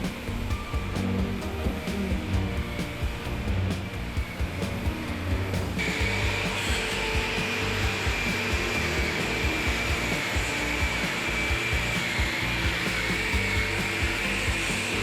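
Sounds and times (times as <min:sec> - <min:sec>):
background music: 0:00.0 - 0:15.0
motor tool whining: 0:01.0 - 0:15.0.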